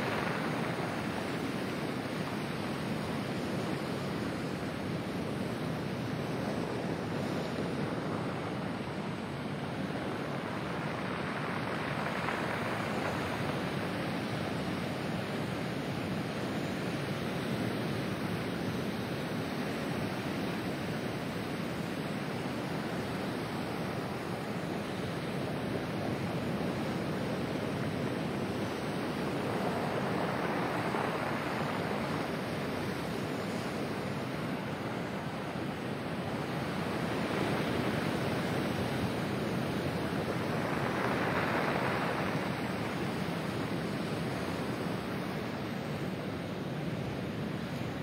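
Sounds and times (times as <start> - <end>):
surf washing over pebble beach: 0.0 - 48.0.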